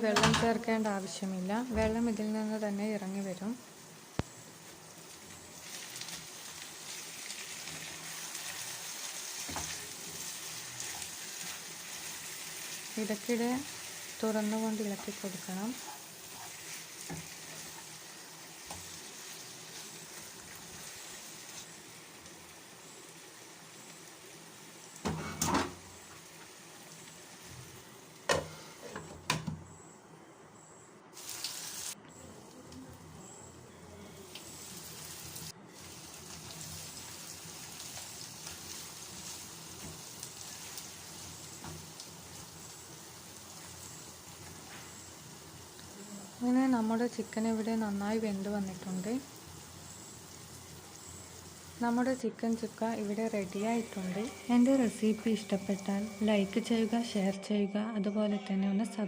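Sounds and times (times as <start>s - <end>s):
chicken sizzling in a pan: 2.4s - 28.9s, 31.2s - 32.6s, 34.2s - 57.0s.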